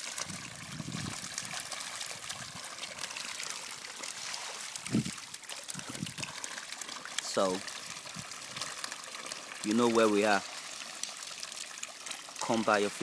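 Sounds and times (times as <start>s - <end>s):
fish splashing at surface: 0.0s - 13.0s.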